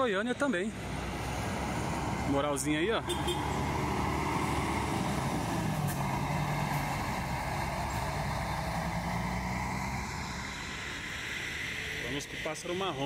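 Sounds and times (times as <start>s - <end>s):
coach diesel engine passing: 0.0s - 13.0s.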